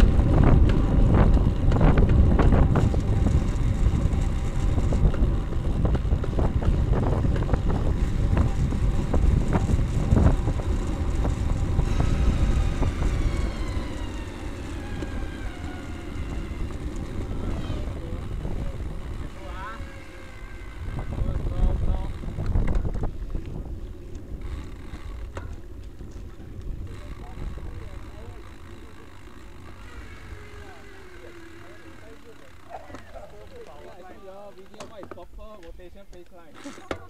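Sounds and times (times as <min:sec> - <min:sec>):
wind buffeting microphone: 0:00.0 - 0:35.9
tyre and road rumble: 0:00.0 - 0:37.0.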